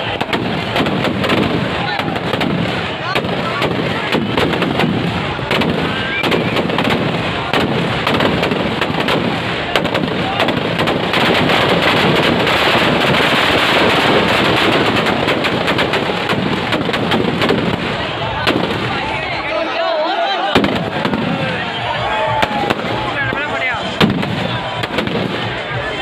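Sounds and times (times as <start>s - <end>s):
firecrackers bangs and crackles: 0.0s - 19.5s, 20.5s - 26.0s.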